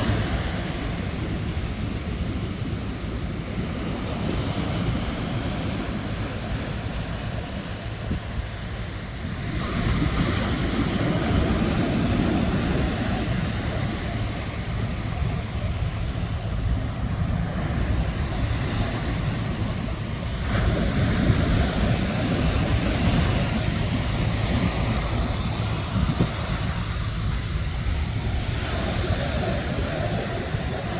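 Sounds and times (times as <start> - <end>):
sea waves breaking on shore: 0.0 - 30.9
wind rumbling on microphone: 0.0 - 30.9.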